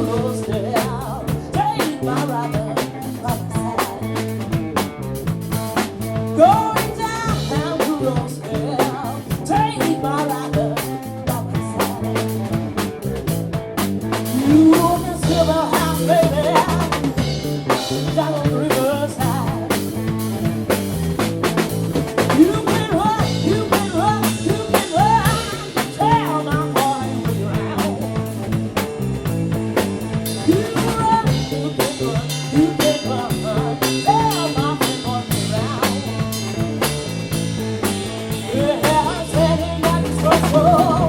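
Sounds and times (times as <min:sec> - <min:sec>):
blues band playing: 0:00.0 - 0:41.0
drum rimshots: 0:00.0 - 0:41.0
guitar melodic lines: 0:00.0 - 0:41.0
walking bass line: 0:00.0 - 0:41.0.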